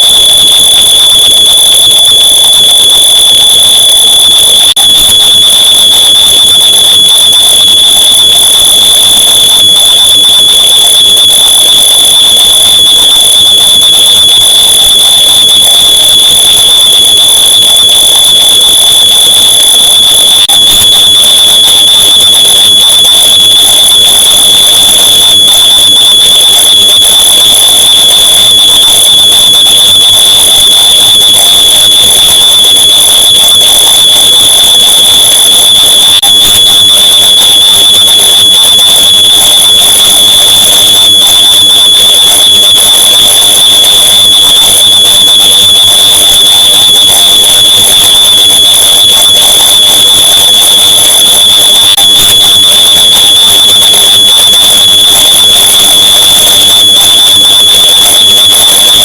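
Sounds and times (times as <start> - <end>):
piercing smoke alarm tone: 0.0 - 59.0.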